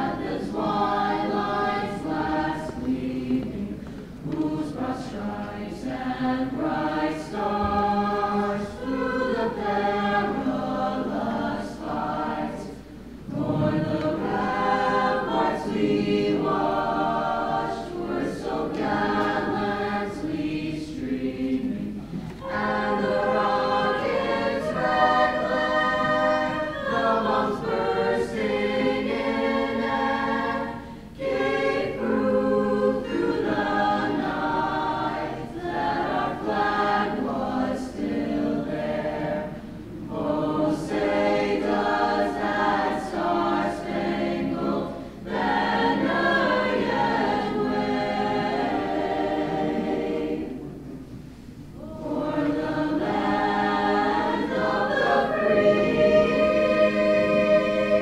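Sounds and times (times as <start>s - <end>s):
choir singing sustained chords: 0.0s - 58.0s.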